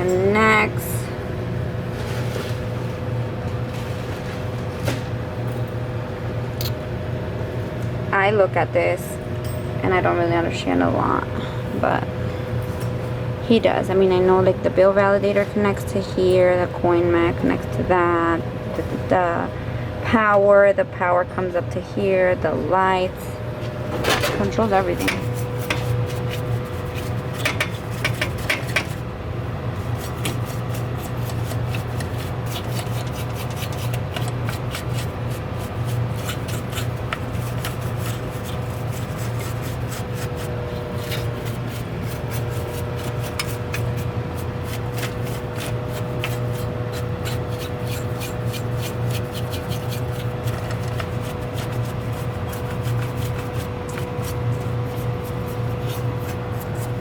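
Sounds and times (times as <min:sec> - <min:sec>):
low machine hum: 0:00.0 - 0:57.0
thin steady whine: 0:05.0 - 0:57.0.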